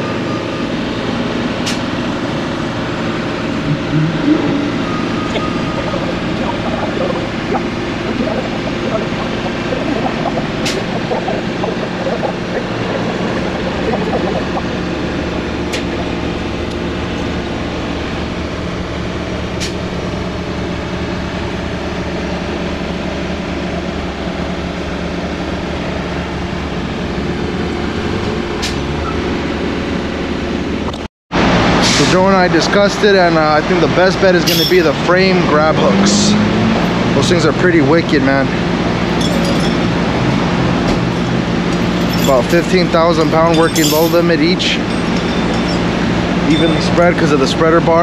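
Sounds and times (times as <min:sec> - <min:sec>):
diesel truck engine running: 0:00.0 - 0:48.0.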